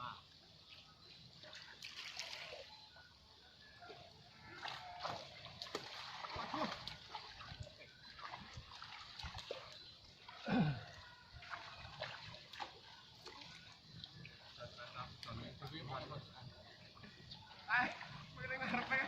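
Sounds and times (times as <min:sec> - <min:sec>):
water splashing and sloshing: 0:00.1 - 0:19.0.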